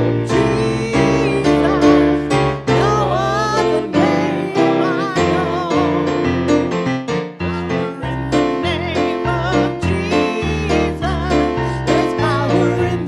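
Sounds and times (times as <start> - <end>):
electric piano chords: 0.0 - 13.0
woman singing a hymn: 0.2 - 6.3, 7.5 - 13.0.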